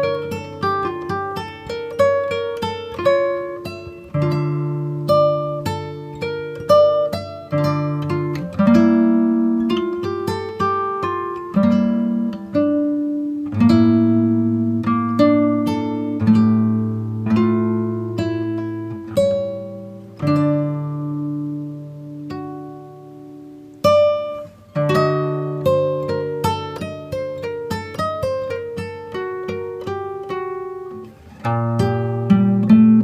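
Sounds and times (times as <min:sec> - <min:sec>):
acoustic guitar plucking: 0:00.0 - 0:33.0.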